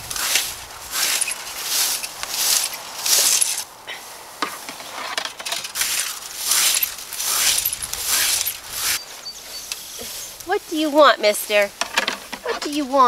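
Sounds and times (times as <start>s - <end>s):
rake rustling through dry grass: 0.0s - 13.0s.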